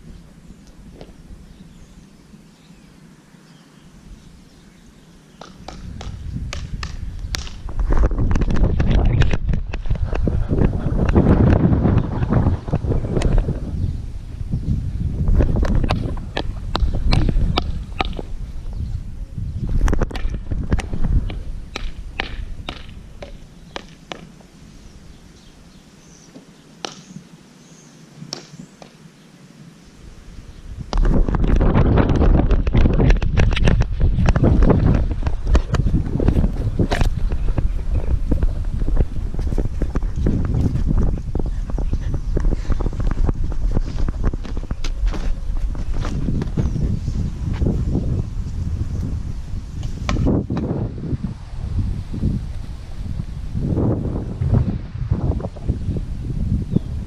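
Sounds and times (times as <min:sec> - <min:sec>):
wind buffeting microphone: 0:04.0 - 0:25.8, 0:30.0 - 0:57.0.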